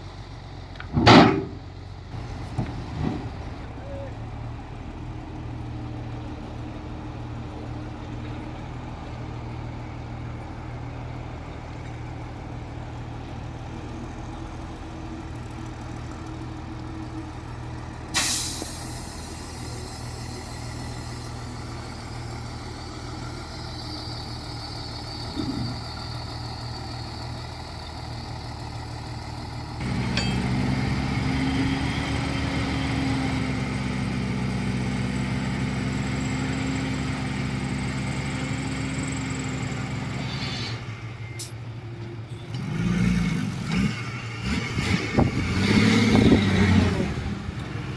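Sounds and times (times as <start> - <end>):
heavy diesel machinery running: 0.0 - 47.9.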